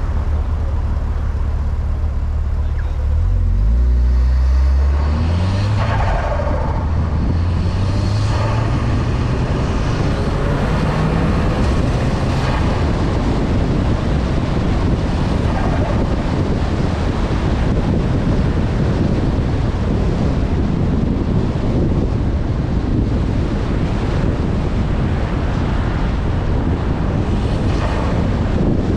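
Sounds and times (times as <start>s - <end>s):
car engine accelerating: 0.0s - 28.9s
wind and road noise: 0.0s - 28.9s.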